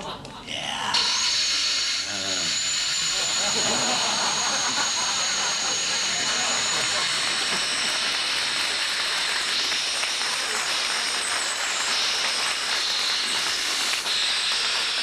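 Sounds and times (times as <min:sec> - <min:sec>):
compressed gas hissing from nozzle: 0:01.0 - 0:15.0.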